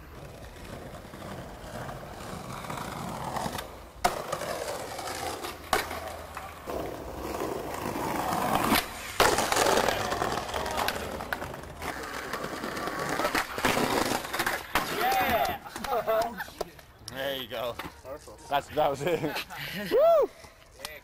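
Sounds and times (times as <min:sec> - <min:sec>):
skateboard clacking on ground: 0:00.0 - 0:18.5
skateboard wheels rolling on paving: 0:00.0 - 0:19.5.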